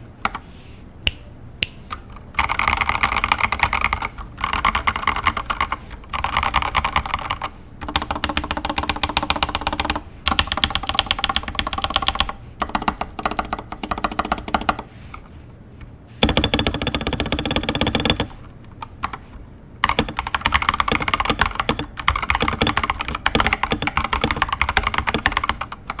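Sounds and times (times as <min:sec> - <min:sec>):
mechanical keyboard typing: 0:02.4 - 0:14.8, 0:16.2 - 0:19.2, 0:19.8 - 0:26.0.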